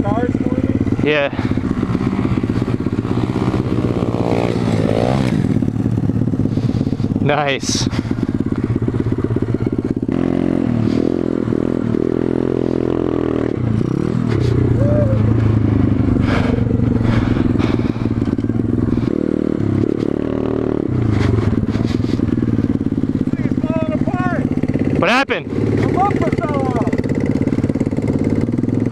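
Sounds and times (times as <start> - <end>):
motorbike engine revving: 0.0 - 28.9.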